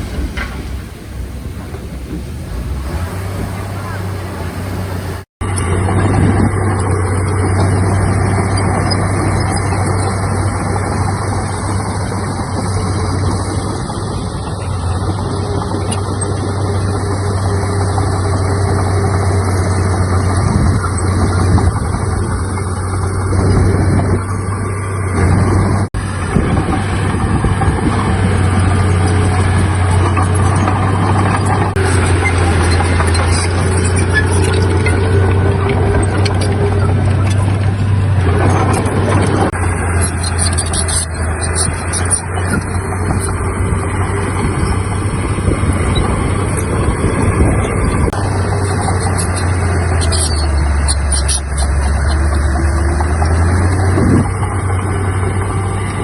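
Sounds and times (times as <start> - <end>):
heavy diesel machinery engine drone: 0.0 - 56.0.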